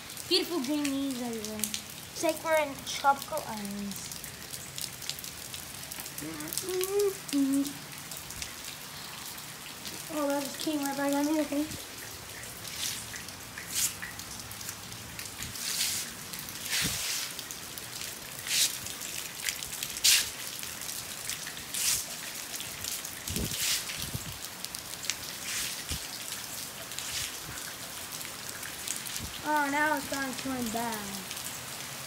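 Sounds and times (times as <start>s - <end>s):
heavy rain falling: 0.0s - 32.0s
hissing rain spatters: 0.0s - 32.0s.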